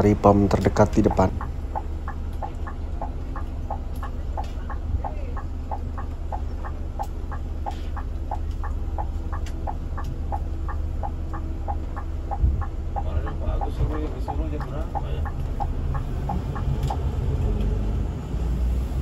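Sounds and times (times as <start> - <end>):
indicator flasher ticking: 0.0 - 17.2
coach engine running: 0.0 - 19.0.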